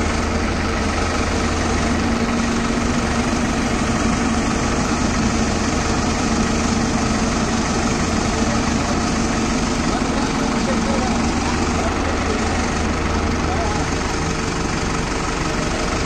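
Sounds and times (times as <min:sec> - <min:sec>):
excavator working: 0:00.0 - 0:16.0
tractor idling: 0:00.0 - 0:16.0.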